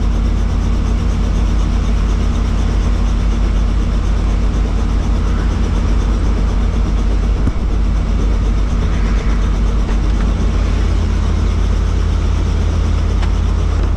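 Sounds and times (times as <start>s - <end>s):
helicopter rotor drone: 0.0s - 13.9s.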